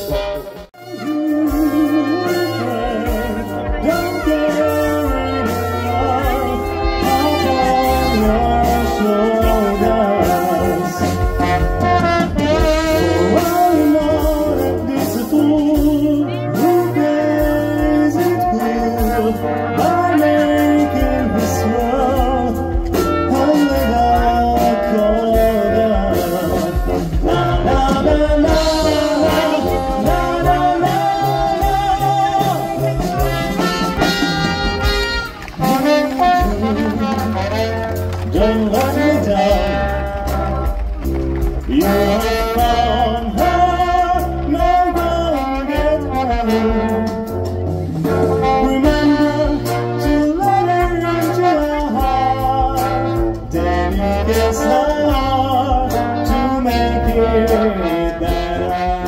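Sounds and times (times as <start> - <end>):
bass line: 0.0 - 59.0
brass ensemble playing: 0.0 - 59.0
drum kit: 0.0 - 59.0.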